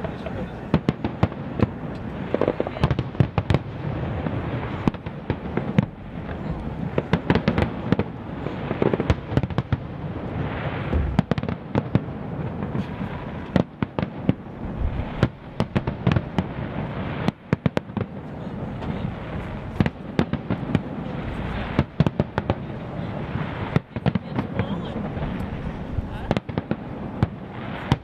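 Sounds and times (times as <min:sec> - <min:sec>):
firework bangs: 0:00.0 - 0:28.0
firework crackle: 0:00.0 - 0:28.0.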